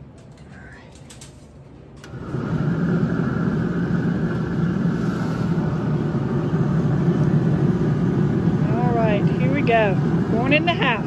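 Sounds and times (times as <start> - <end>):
machine hum and rumble: 0.0 - 11.0.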